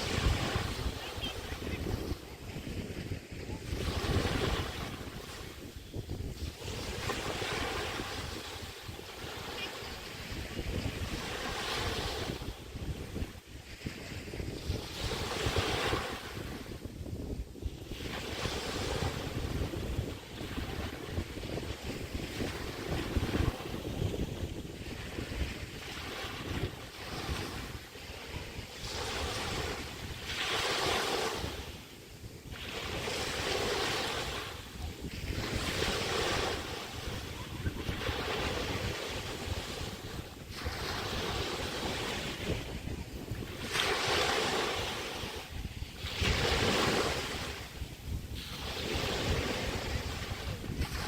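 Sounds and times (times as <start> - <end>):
waves breaking on a beach: 0.0 - 51.0
wind on microphone: 0.0 - 51.0.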